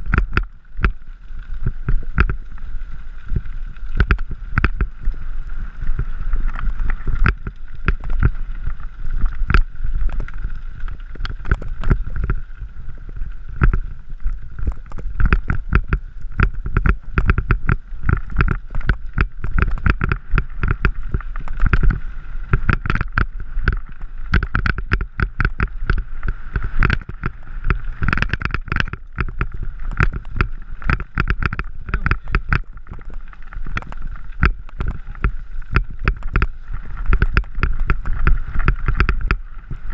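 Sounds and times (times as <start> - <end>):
bike rattling over gravel: 0.0 - 39.9
wind rumble on microphone: 0.0 - 39.9.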